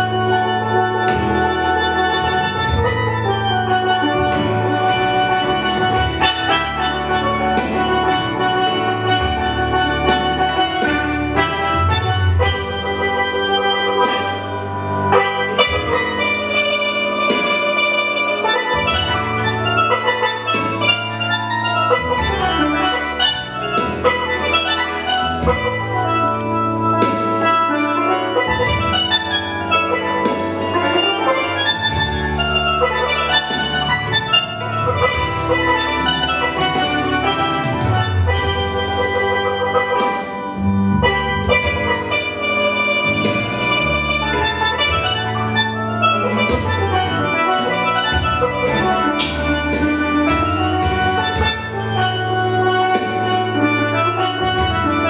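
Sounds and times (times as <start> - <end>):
low bass line: 0.0 - 55.0
steel pan melody: 0.0 - 55.0.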